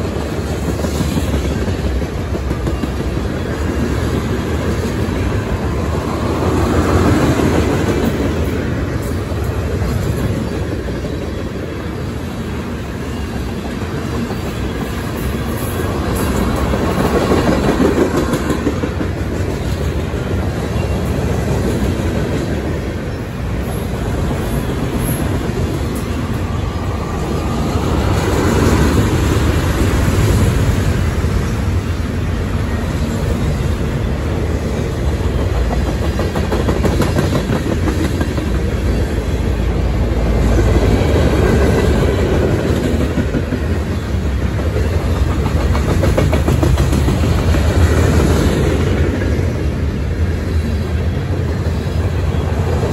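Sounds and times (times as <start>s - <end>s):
freight cars rolling on rails: 0.0s - 52.9s.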